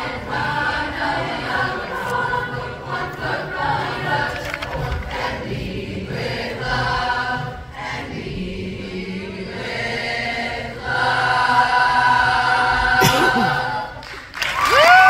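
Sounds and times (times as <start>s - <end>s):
choir singing long held notes: 0.0s - 14.3s.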